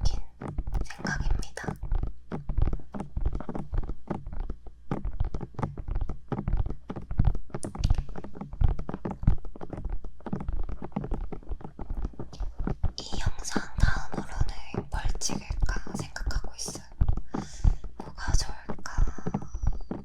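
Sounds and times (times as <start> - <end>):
fingertips tapping on microphone: 0.0 - 20.0.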